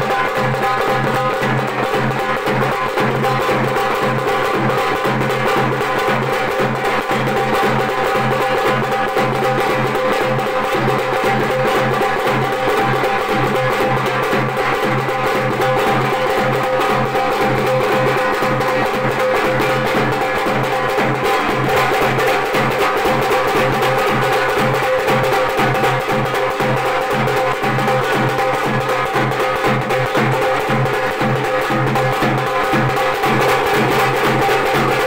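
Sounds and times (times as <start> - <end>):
rapid hand drumming: 0.0 - 35.0.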